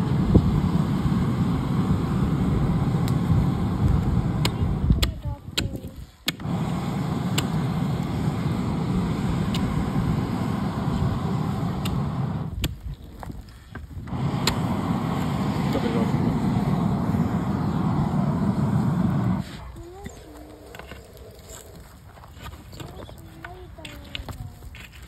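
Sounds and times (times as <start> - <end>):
furnace roaring under air blast: 0.0 - 5.3, 6.2 - 22.5.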